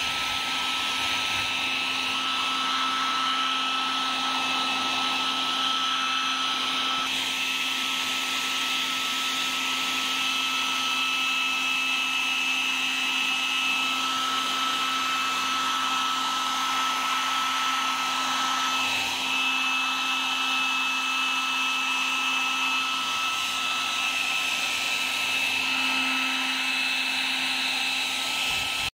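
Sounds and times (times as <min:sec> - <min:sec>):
hair dryer running: 0:00.0 - 0:28.9.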